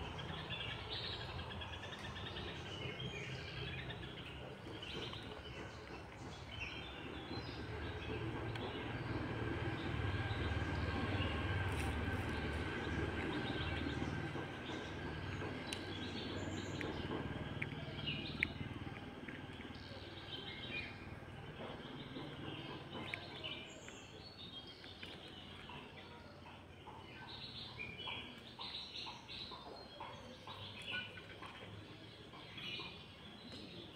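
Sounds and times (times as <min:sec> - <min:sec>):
low steady rumble: 0:00.0 - 0:28.3
small birds chirping: 0:00.0 - 0:33.9.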